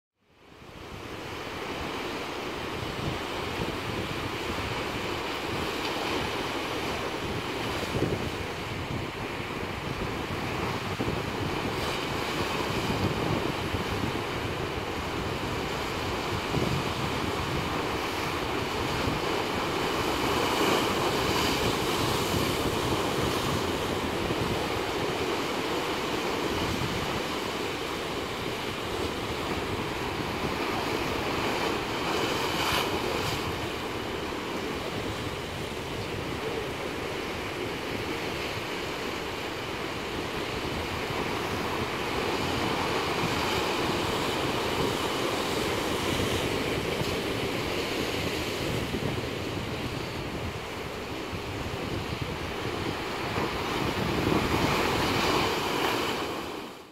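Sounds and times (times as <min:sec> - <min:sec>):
surf washing against rocks: 0:00.5 - 0:56.9
wave splashing: 0:01.0 - 0:56.9.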